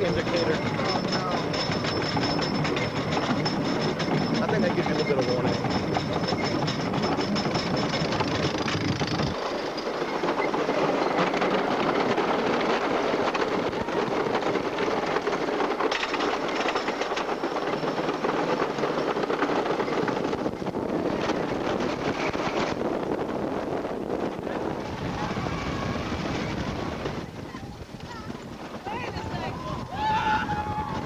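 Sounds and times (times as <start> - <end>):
roller coaster wheels clattering: 0.0 - 31.0.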